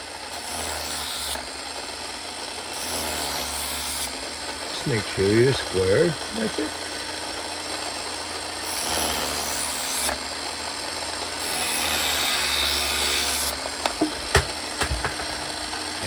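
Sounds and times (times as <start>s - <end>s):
knife sharpener motor humming: 0.0s - 16.0s.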